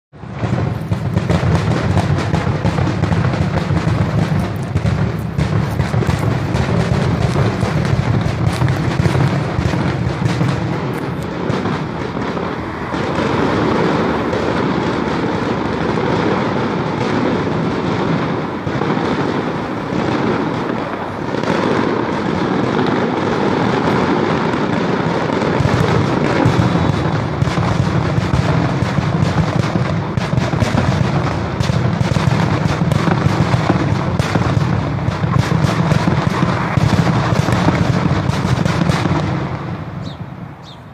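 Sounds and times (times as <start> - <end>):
firecrackers crackling: 0.2 - 40.9.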